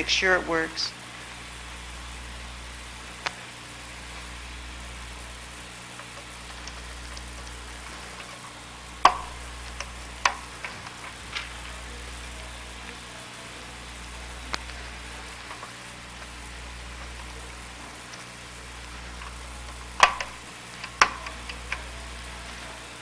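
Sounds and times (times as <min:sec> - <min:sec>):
low hum and hiss: 0:00.0 - 0:23.0.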